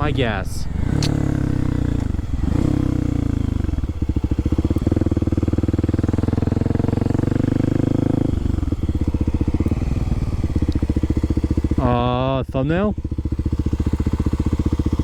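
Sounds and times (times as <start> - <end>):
motorcycle engine winding down: 0.0 - 15.0.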